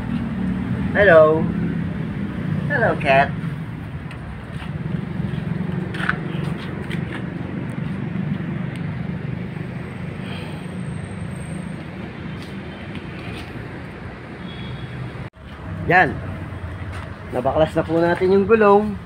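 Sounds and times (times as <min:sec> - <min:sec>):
low rumble of vehicle noise: 0:00.0 - 0:19.0.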